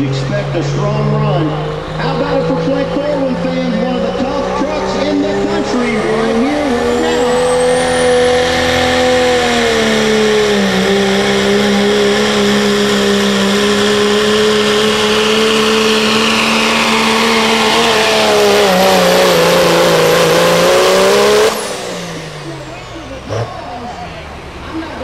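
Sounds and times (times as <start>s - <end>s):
diesel truck engine at full throttle: 0.0s - 25.0s.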